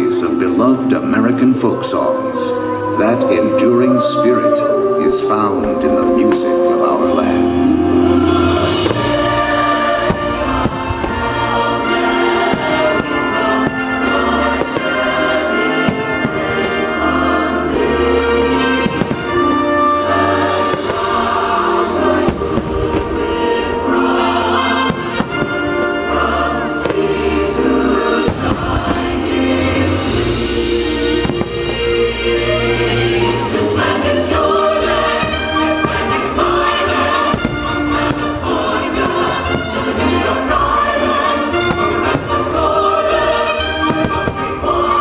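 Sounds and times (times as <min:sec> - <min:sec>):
choir singing folk song: 0:00.0 - 0:45.0
fireworks bursting: 0:07.8 - 0:45.0.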